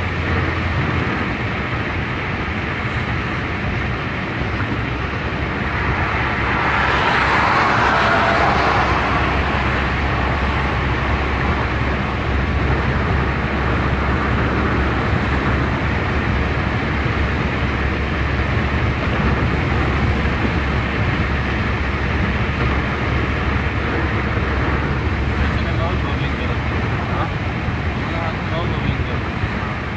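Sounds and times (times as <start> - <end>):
car road and engine noise: 0.0 - 29.9.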